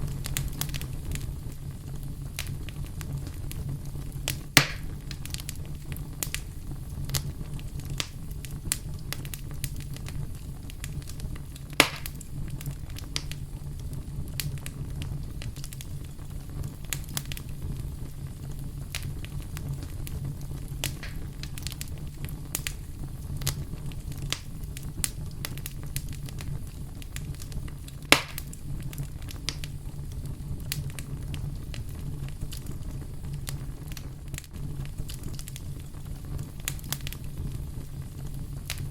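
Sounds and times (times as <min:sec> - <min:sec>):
campfire burning: 0:00.0 - 0:38.9
fire crackling: 0:00.0 - 0:38.9
fire popping: 0:00.0 - 0:38.9.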